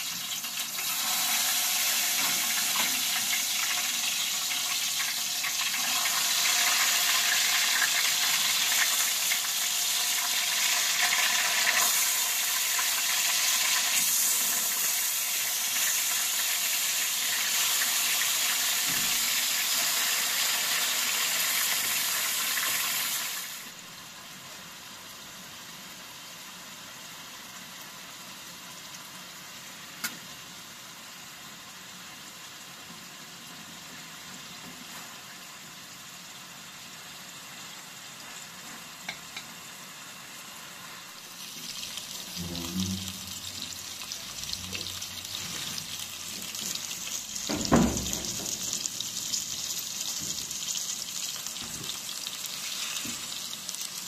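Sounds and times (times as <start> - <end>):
tomato slices sizzling in oil: 0.0 - 54.0.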